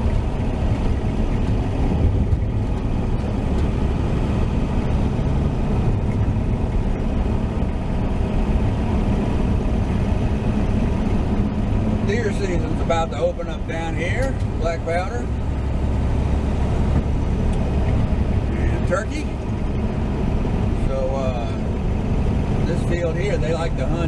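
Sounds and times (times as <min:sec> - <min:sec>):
pickup truck engine running: 0:00.0 - 0:24.0.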